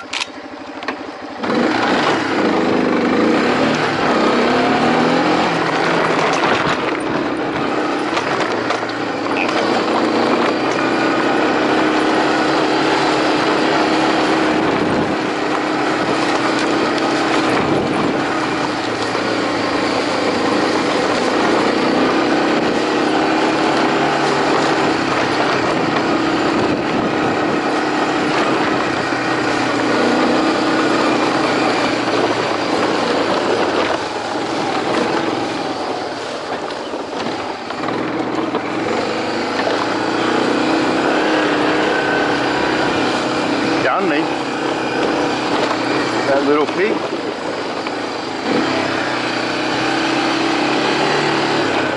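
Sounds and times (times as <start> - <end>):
small engine running: 0.0 - 51.9.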